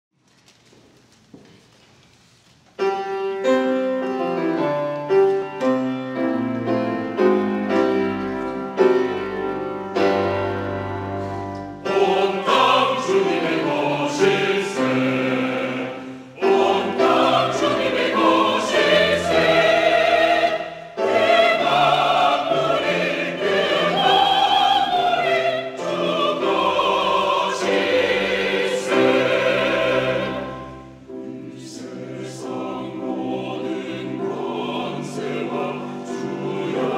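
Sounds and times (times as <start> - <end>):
instrumental accompaniment: 2.7 - 36.9
choir singing: 5.8 - 36.9.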